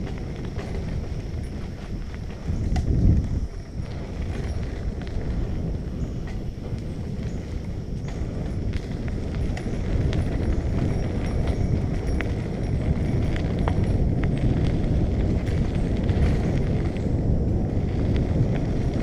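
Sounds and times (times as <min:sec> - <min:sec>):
bicycle clicks and rattles: 0:00.0 - 0:19.0
wind rushing over microphone: 0:00.0 - 0:19.0.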